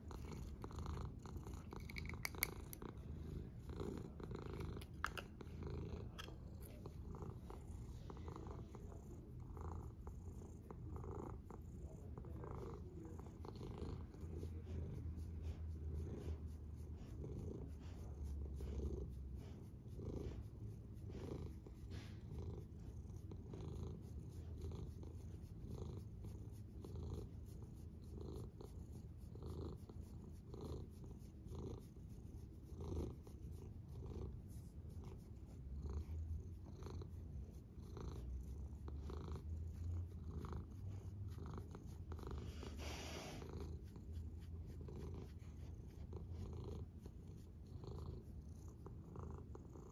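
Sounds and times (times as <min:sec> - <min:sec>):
cat purring: 0:00.0 - 0:49.9.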